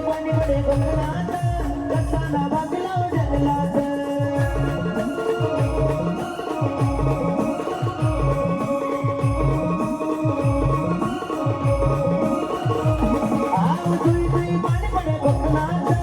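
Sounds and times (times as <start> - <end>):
bass drum beats: 0.0 - 16.0.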